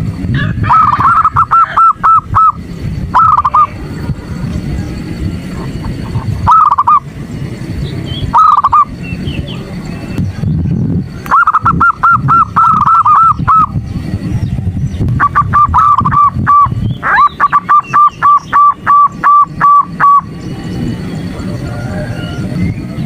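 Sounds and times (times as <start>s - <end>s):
dove calling: 0.0s - 23.0s.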